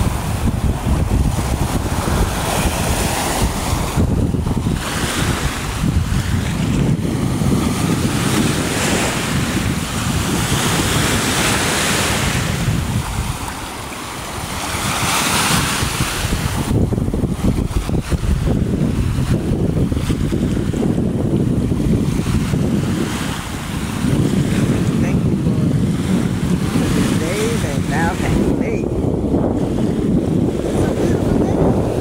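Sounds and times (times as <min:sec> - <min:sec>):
waves washing onto beach: 0:00.0 - 0:32.0
wind buffeting microphone: 0:00.0 - 0:32.0.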